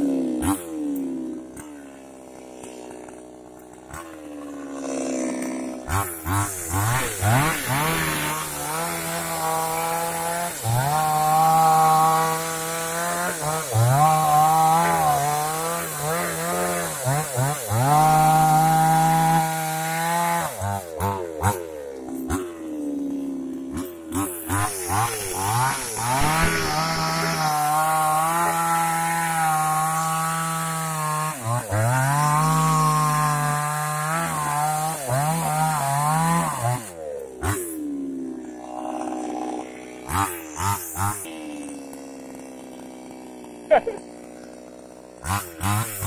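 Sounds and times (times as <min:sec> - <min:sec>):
chainsaw sawing wood: 0:00.0 - 0:46.0.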